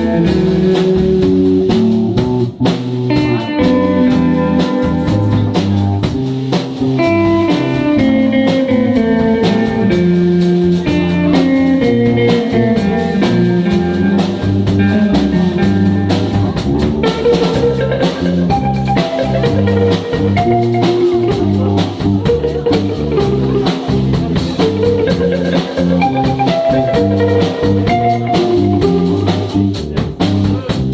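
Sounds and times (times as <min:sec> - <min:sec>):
blues instrumental music: 0:00.0 - 0:30.9.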